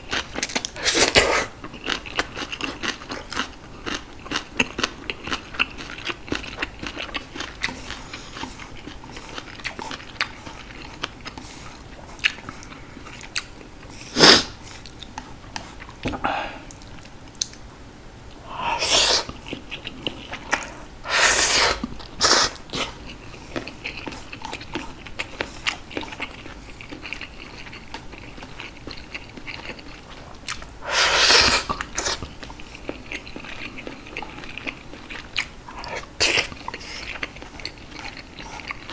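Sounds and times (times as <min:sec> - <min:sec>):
chewing and crunching: 0:00.0 - 0:16.1, 0:19.2 - 0:20.9, 0:21.8 - 0:38.9.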